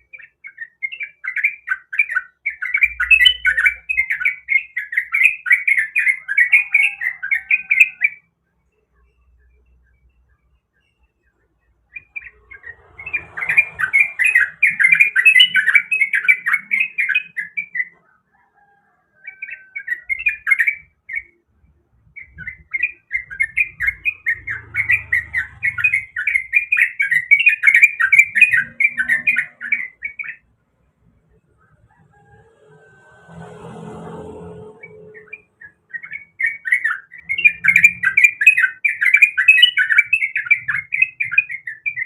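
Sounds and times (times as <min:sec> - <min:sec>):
bird singing chattering notes: 0:00.0 - 0:08.3, 0:08.9 - 0:18.0, 0:19.4 - 0:30.6, 0:34.9 - 0:42.0.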